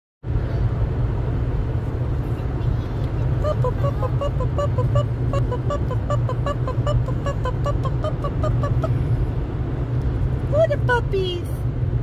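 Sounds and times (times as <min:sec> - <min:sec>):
road and engine rumble: 0:00.2 - 0:12.0.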